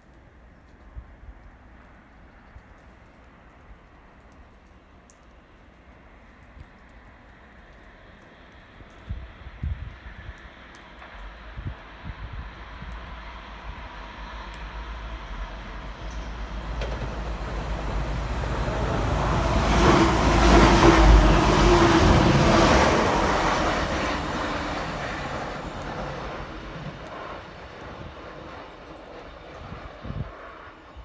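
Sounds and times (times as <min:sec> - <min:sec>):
passing train engine and wheels: 0:00.0 - 0:31.0.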